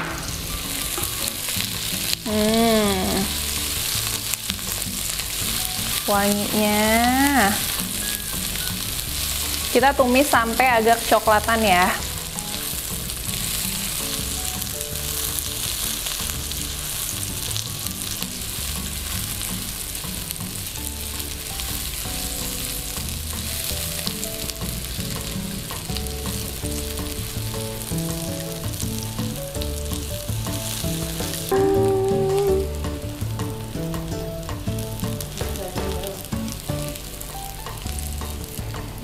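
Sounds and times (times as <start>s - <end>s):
spatula scraping wok: 0.0s - 31.6s
onion and garlic sizzling in oil: 0.0s - 39.0s
soft background music: 0.0s - 39.0s.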